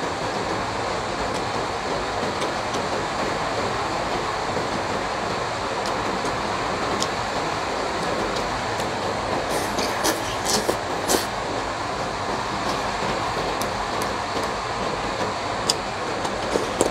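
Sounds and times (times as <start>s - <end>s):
heavy rain hissing: 0.0s - 16.9s.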